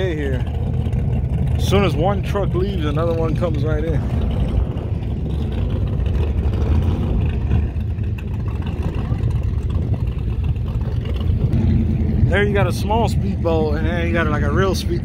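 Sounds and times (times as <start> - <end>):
motorboat engine rumbling: 0.0 - 15.0
wind buffeting microphone: 0.0 - 15.0.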